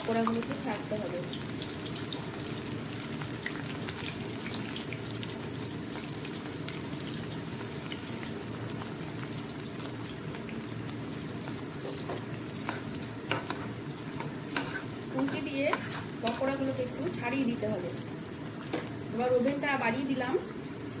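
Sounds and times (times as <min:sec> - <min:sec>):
batter deep-frying in oil: 0:00.0 - 0:21.0.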